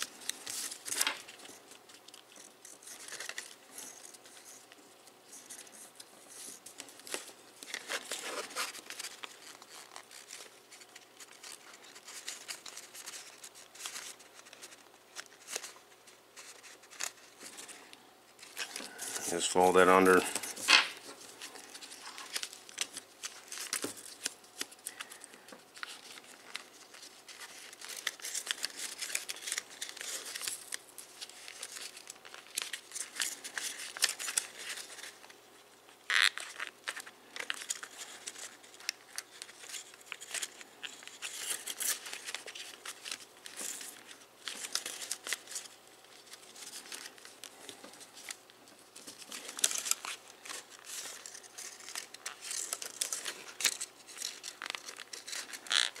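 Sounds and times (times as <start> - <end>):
paper crinkling and rustling: 0.0 - 56.0.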